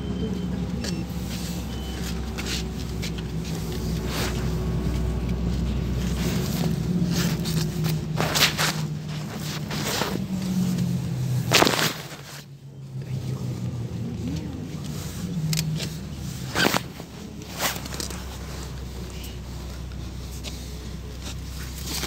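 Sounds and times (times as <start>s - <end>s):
bus engine hum: 0.0s - 22.0s
interior rattles and clicks: 0.0s - 22.0s.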